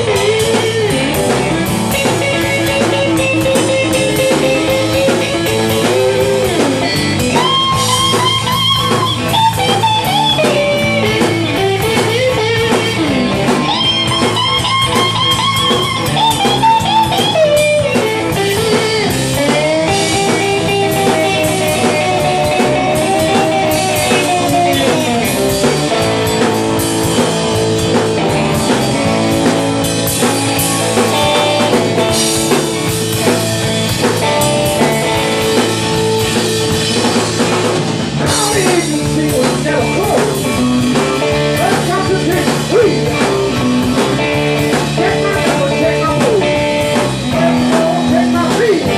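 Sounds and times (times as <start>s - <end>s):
lead guitar solo: 0.0s - 48.9s
live blues band playing: 0.0s - 48.9s.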